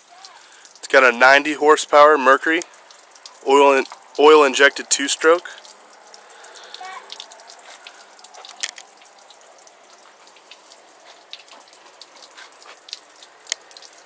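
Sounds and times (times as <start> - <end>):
water dripping on wet concrete: 0.0 - 14.0
water running and hissing: 0.0 - 14.0.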